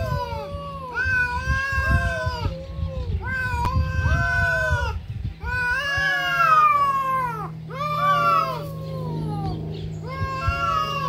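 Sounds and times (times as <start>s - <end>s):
cats caterwauling: 0.0s - 11.0s.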